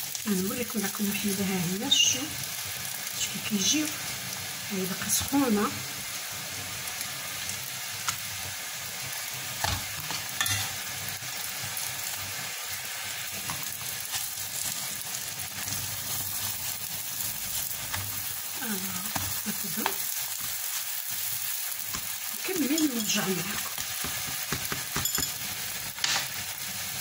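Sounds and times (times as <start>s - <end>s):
flatbreads sizzling in oil: 0.0s - 27.0s.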